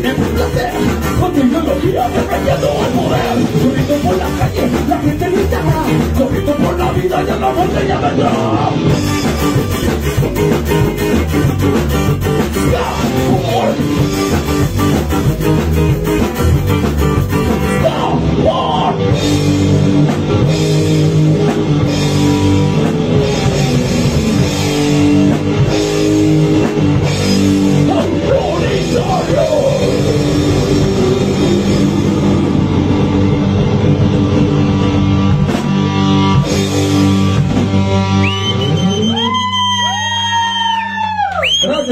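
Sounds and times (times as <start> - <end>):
heavy rock band playing: 0.0 - 41.9.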